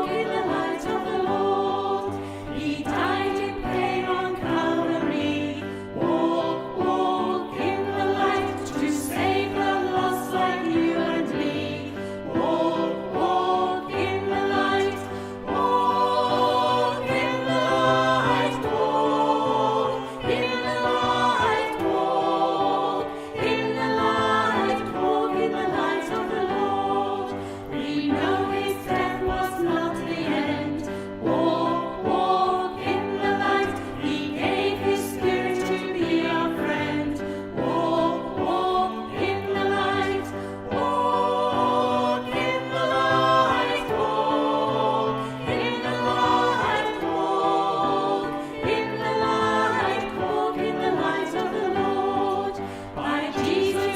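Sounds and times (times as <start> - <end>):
choir singing: 0.0 - 53.9.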